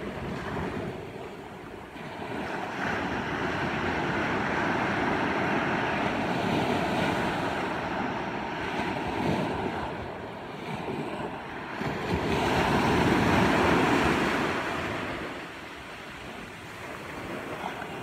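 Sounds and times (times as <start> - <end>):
small waves breaking on beach: 0.0 - 18.0.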